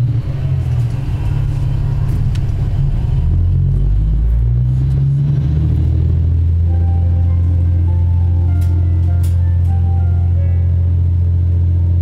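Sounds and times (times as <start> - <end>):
railcar engine droning: 0.0 - 12.0.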